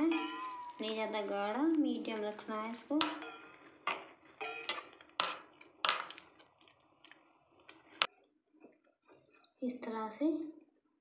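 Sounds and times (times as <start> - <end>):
hand mixing wet batter: 0.0 - 10.0.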